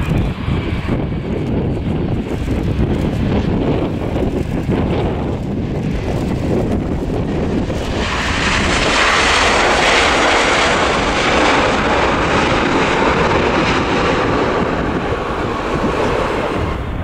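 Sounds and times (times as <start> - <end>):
jet engines roaring in reverse thrust: 0.0 - 17.0.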